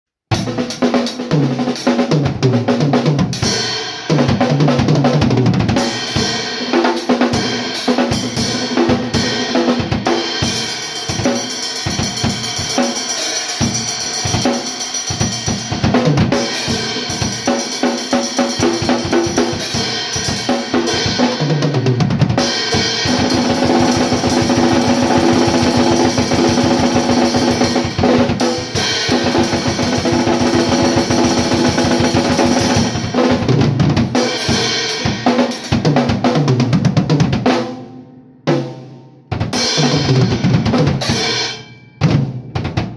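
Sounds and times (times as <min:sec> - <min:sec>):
blast beat snare roll: 0:00.3 - 0:37.8, 0:38.5 - 0:42.9
drum kit grooves: 0:00.3 - 0:42.9.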